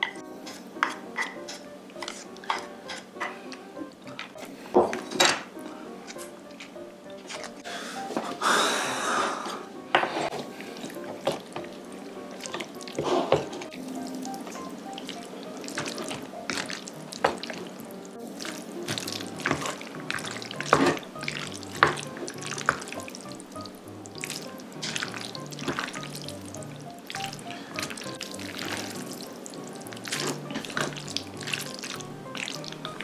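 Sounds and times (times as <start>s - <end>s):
chopsticks mixing sticky noodles: 0.0s - 5.2s, 6.0s - 7.7s, 10.0s - 33.0s
soft background music: 0.0s - 33.0s.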